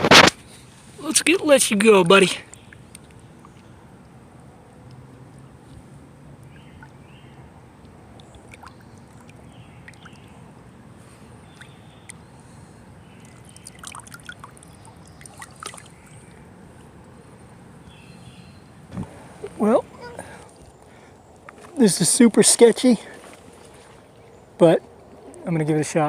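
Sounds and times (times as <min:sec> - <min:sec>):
creek water trickling: 0:00.5 - 0:26.0.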